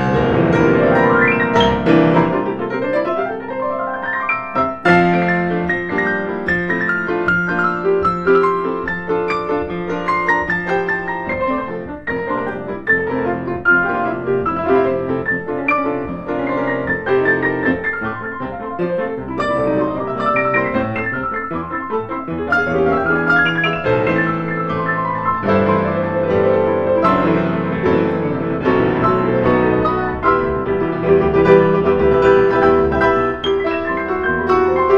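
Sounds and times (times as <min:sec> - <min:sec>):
classical piano piece: 0:00.0 - 0:34.9.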